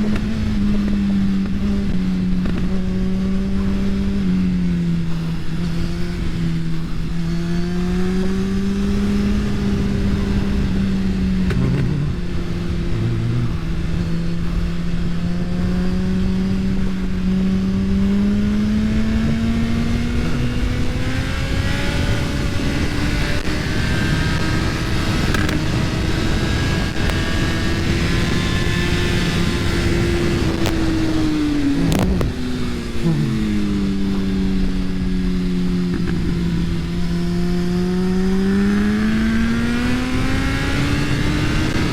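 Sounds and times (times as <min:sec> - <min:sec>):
motorcycle engine running hard: 0:00.0 - 0:41.9
wind rush: 0:00.0 - 0:41.9.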